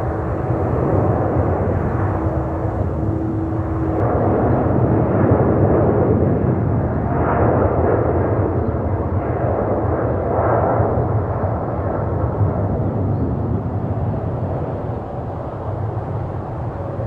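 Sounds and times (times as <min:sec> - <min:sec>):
jet engines crackling rumble: 0:00.0 - 0:17.0.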